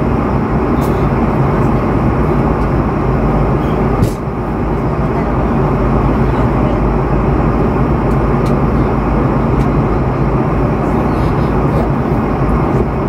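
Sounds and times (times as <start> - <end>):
jet cabin engine rush: 0.0 - 13.0
low steady hum: 0.0 - 13.0.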